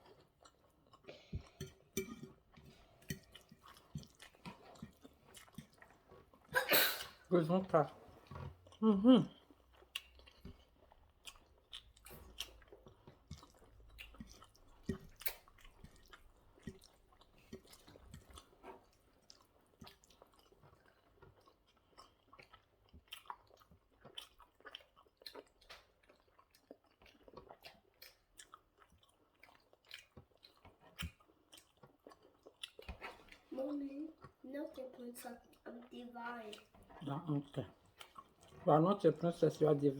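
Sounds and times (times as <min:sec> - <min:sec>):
close-up chewing with mouth clicks: 0:00.0 - 0:07.1, 0:08.1 - 0:34.4, 0:35.2 - 0:39.7.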